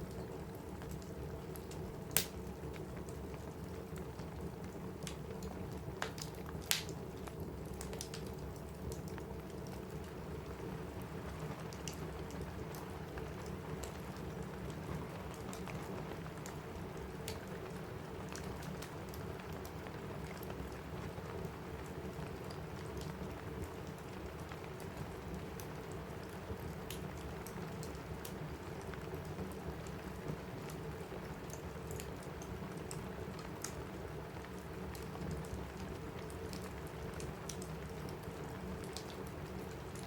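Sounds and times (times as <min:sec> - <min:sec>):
rain on a roof: 0:00.0 - 0:40.0
wood fire crackling and popping: 0:00.7 - 0:10.4, 0:11.0 - 0:40.0.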